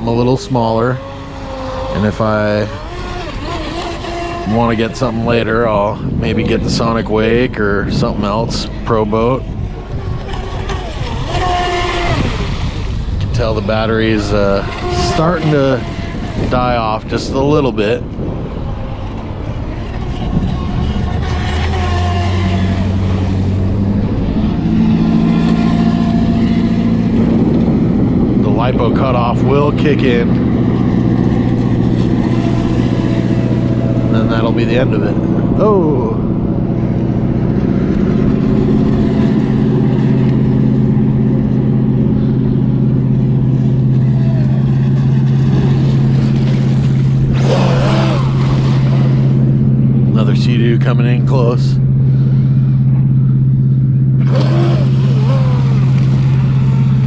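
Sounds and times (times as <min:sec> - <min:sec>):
electric motor whine: 0:00.0 - 0:50.2, 0:51.8 - 0:57.0
low engine drone: 0:00.0 - 0:57.0.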